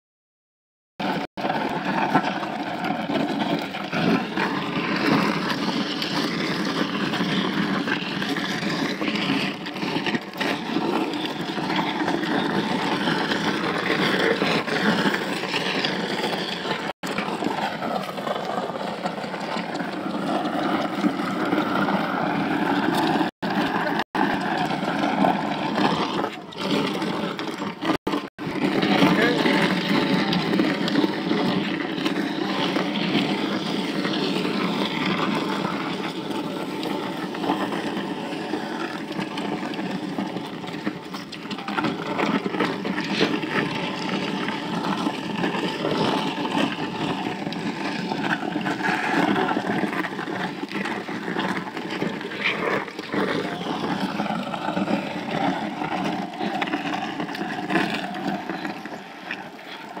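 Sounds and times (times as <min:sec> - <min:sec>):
road noise: 0:01.0 - 1:00.0.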